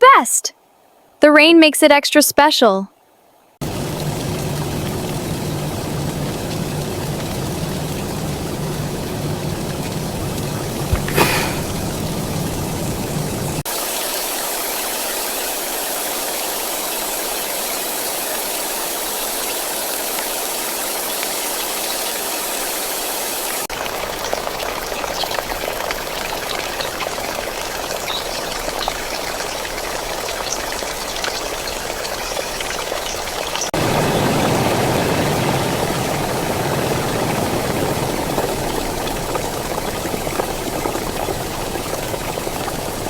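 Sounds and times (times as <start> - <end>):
steady rain hiss: 3.0 - 43.0.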